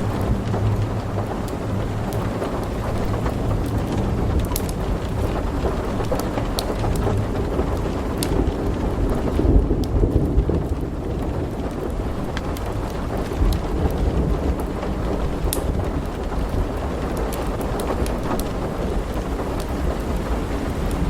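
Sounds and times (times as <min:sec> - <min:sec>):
heavy rain: 0:00.0 - 0:21.0
thunder rumbling: 0:00.0 - 0:21.0
wood fire crackling: 0:00.0 - 0:21.0.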